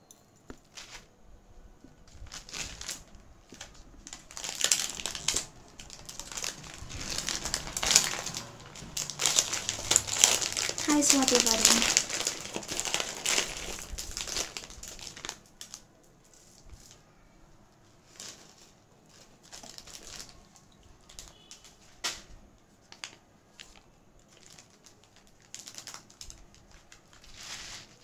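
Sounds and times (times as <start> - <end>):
plastic and paper crinkling: 0.6 - 1.1, 1.8 - 17.2, 17.8 - 28.0.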